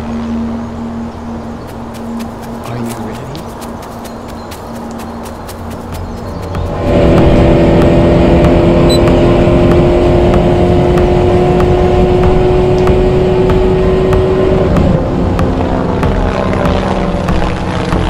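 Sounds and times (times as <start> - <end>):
rushing wind and road noise: 0.0 - 18.0
sports car engine at high revs: 1.6 - 18.0.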